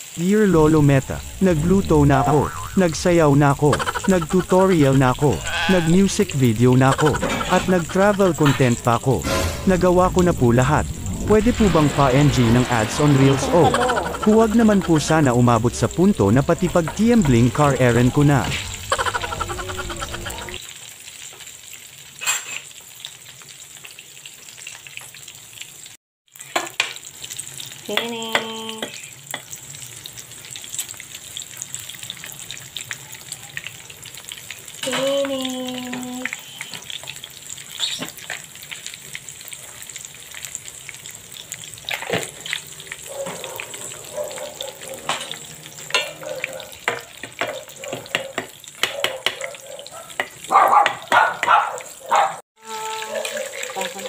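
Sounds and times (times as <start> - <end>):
hot oil sizzling and crackling: 0.0 - 54.0.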